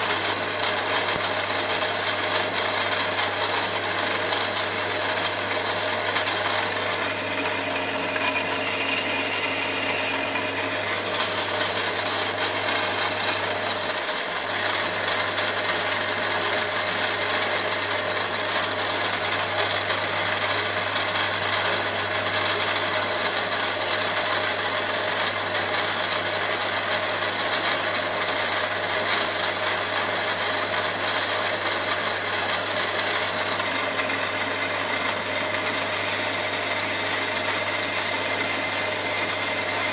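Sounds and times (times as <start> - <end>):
milling machine motor hum: 0.0 - 39.9.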